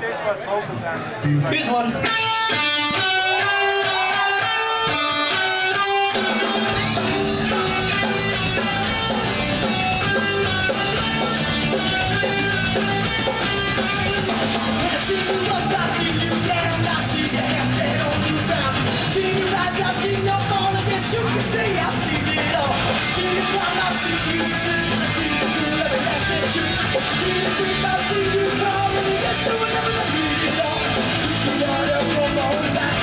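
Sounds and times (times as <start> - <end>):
punk rock band playing: 0.8 - 33.0
electric guitar riff: 1.2 - 33.0.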